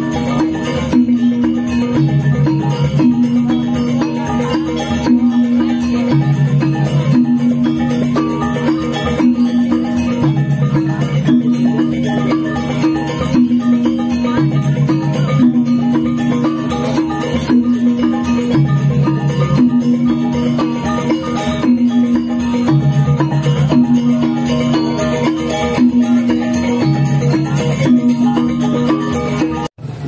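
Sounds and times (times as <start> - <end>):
fast dense percussion: 0.0 - 30.0.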